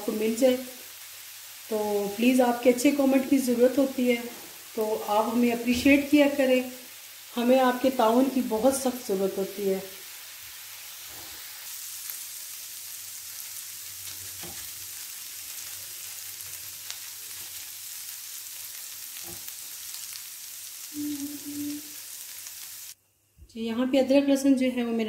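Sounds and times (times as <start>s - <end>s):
paste sizzling in hot oil: 0.0s - 23.0s.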